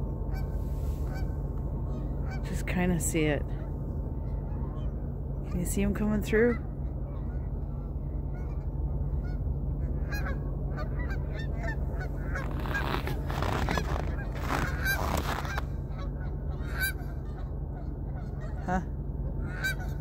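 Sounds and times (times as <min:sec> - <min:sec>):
low rumble: 0:00.0 - 0:20.0
geese honking: 0:00.3 - 0:18.8, 0:19.4 - 0:20.0.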